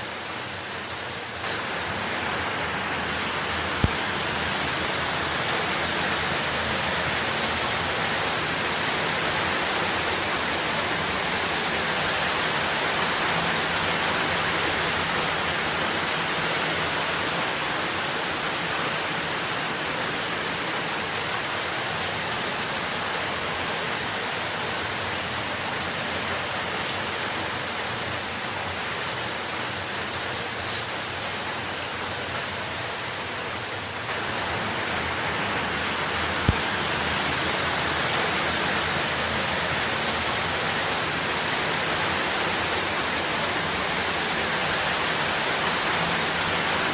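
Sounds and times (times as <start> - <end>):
steady rain hiss: 0.0 - 46.9.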